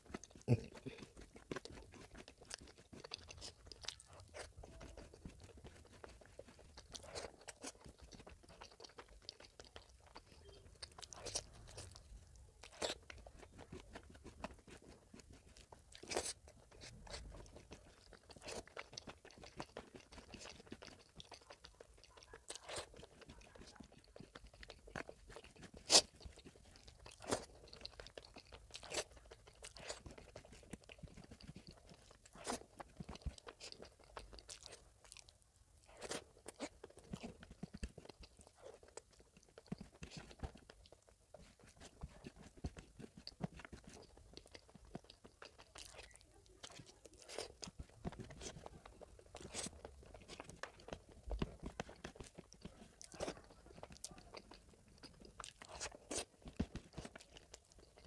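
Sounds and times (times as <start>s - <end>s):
person chewing with mouth clicks: 0.0s - 58.0s.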